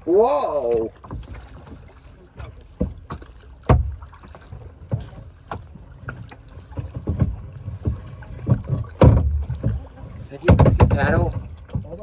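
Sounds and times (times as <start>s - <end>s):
paddles knocking and splashing: 0.0s - 12.0s.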